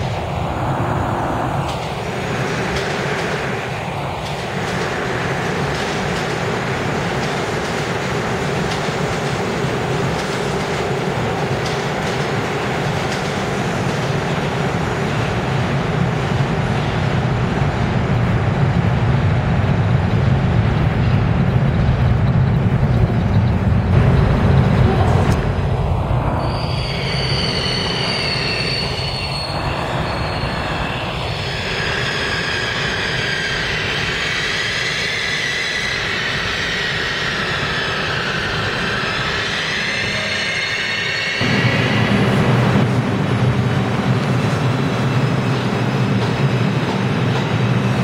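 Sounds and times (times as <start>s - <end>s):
subway train rumbling: 0.0s - 48.0s.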